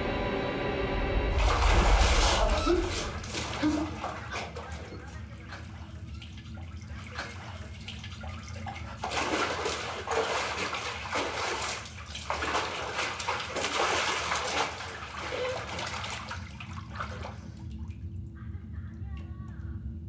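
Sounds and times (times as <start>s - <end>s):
low steady hum: 0.0s - 20.0s
bath water sloshing and splashing: 1.3s - 18.3s.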